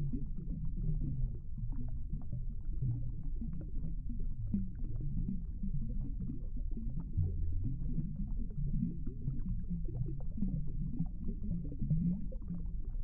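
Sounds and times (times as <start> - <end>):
underwater rumble and gurgle: 0.0 - 13.0.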